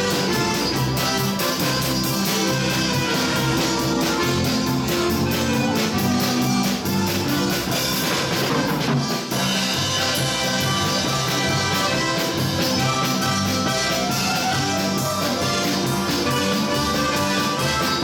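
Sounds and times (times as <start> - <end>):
accordions playing polka: 0.0 - 18.0
steady drum beat: 0.0 - 18.0.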